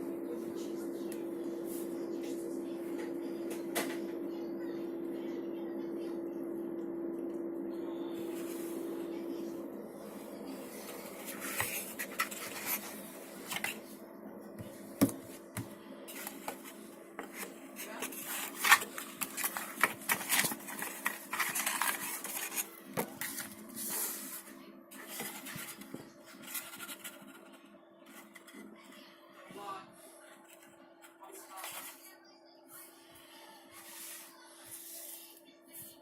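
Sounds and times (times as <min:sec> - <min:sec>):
steady hum: 0:00.0 - 0:33.7.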